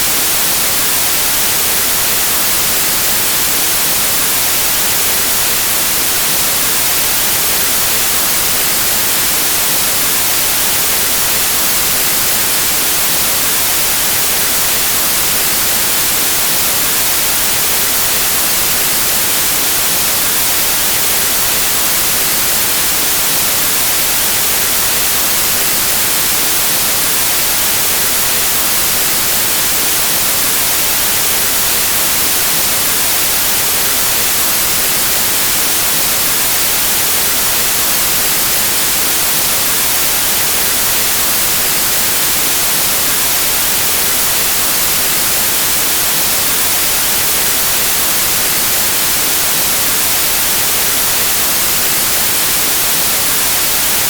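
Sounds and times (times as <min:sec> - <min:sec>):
white noise static hiss: 0:00.0 - 0:54.0.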